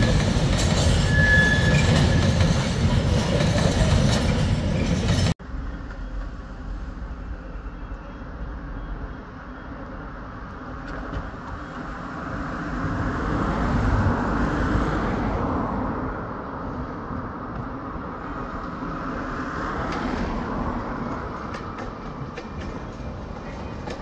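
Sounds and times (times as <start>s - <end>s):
passing train rumble: 0.0s - 24.0s.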